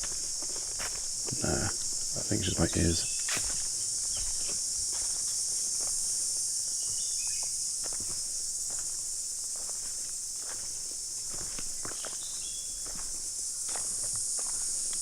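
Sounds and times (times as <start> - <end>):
footsteps on a trail: 0.0 - 15.0
insect chorus: 0.0 - 15.0.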